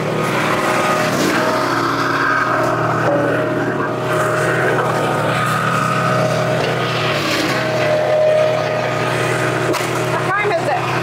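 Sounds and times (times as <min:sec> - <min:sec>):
hydraulic whine: 0:00.0 - 0:11.0
log splitter engine running: 0:00.0 - 0:11.0.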